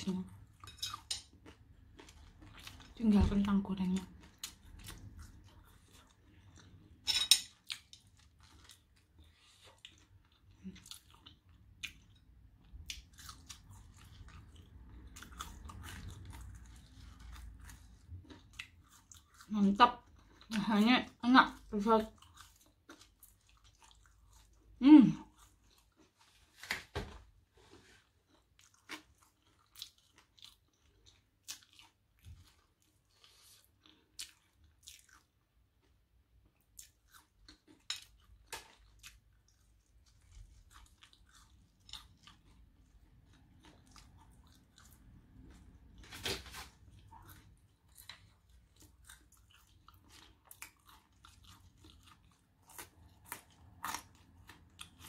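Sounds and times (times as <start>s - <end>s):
chewing with wet mouth sounds: 0.0s - 26.3s, 27.6s - 55.0s.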